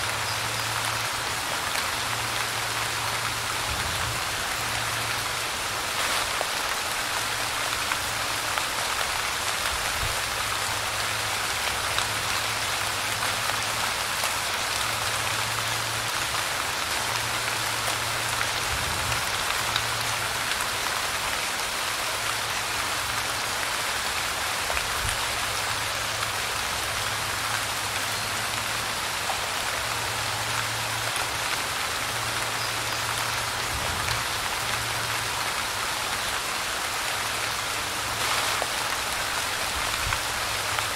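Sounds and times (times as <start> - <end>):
light rain hiss: 0.0 - 40.9.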